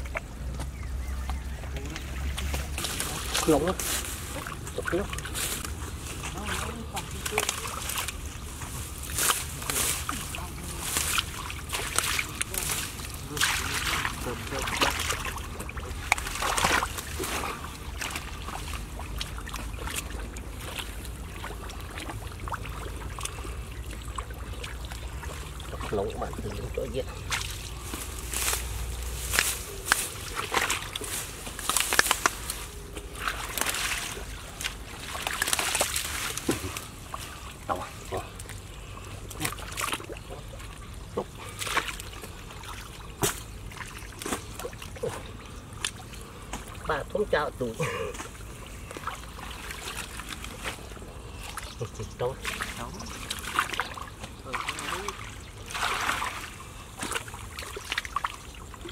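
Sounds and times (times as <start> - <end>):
water dripping: 0.0 - 58.9
hands splashing in muddy water: 2.0 - 47.0, 47.6 - 58.9.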